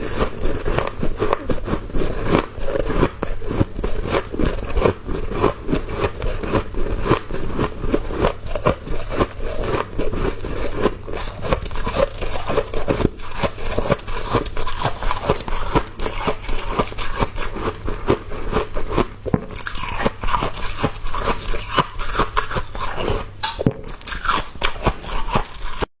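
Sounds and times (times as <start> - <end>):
chewing crunchy ice: 0.0 - 25.9.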